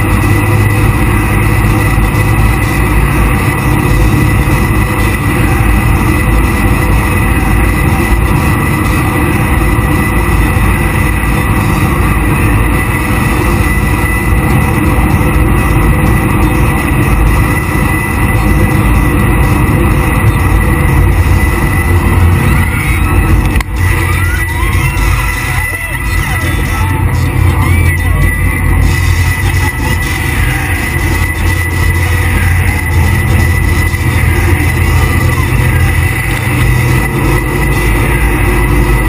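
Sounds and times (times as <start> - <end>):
jet boat running at speed: 0.0 - 39.0
thin steady whine: 0.0 - 39.0.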